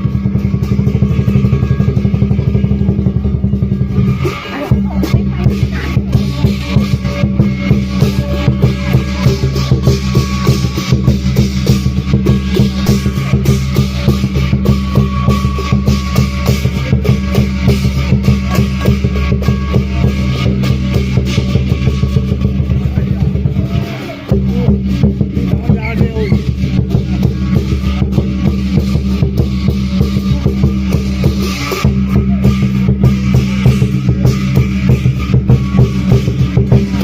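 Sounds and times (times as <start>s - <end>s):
fast drumbeat: 0.0s - 37.0s.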